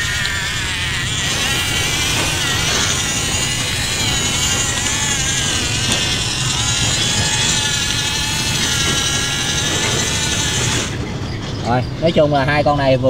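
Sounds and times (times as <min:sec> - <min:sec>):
toy excavator motors whining: 0:00.0 - 0:12.3.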